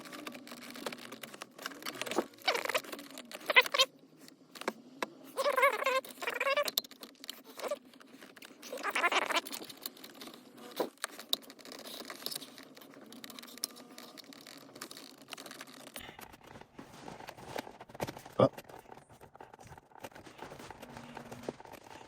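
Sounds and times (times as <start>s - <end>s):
plastic and wiring rustling: 0.0s - 22.0s.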